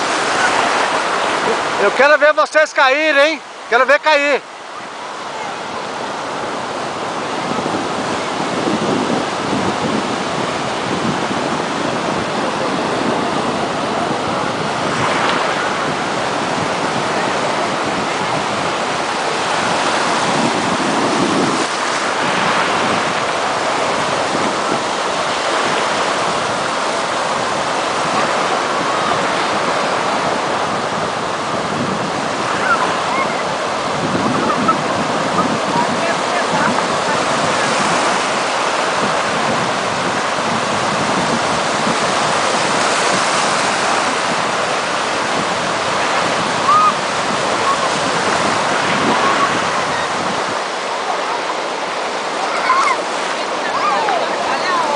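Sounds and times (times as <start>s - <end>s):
sea waves rushing: 0.0s - 54.9s
wind buffeting microphone: 4.6s - 54.9s.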